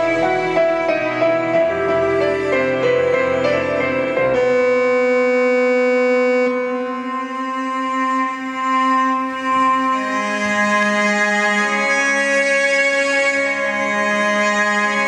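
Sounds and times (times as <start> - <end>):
slow bowed string music: 0.0 - 15.0.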